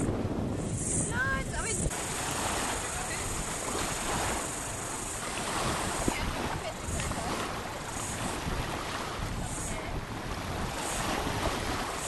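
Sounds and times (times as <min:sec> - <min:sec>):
sea water washing on beach: 0:00.0 - 0:12.0
wind rumbling on microphone: 0:00.0 - 0:12.0.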